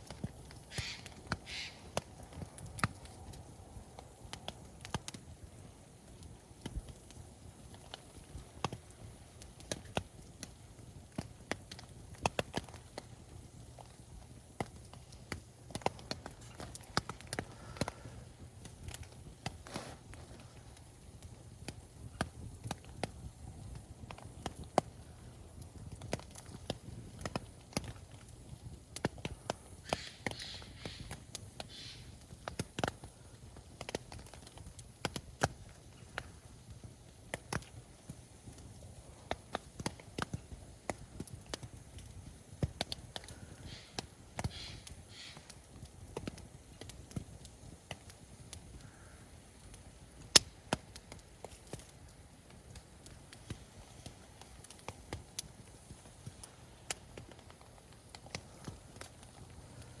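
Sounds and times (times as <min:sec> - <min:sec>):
campfire crackling: 0:00.0 - 1:00.0
fire pops and snaps: 0:00.0 - 1:00.0
low steady hiss: 0:00.0 - 1:00.0.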